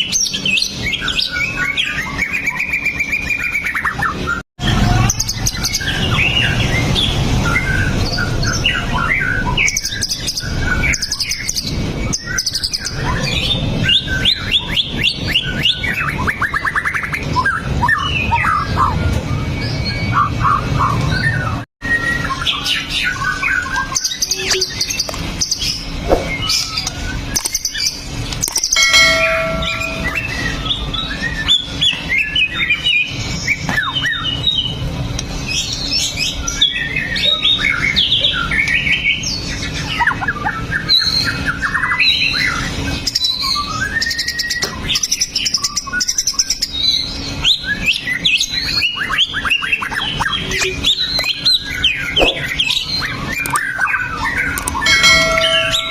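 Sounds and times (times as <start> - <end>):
bird singing whistles and trills: 0.0 - 4.4, 5.0 - 34.8, 35.5 - 55.9.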